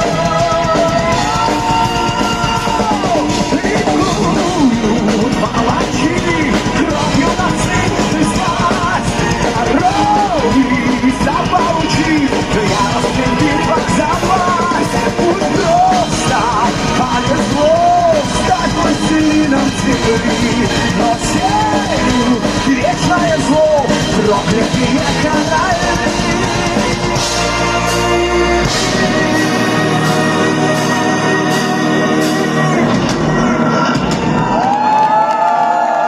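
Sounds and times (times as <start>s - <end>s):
driving drums and bass: 0.0s - 35.2s
melodic lead guitar line: 0.0s - 36.0s.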